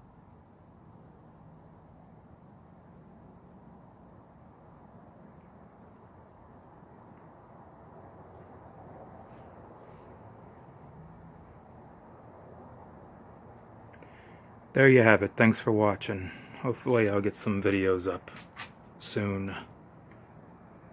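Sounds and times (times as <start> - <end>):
ceiling fan air hiss: 0.0 - 20.9.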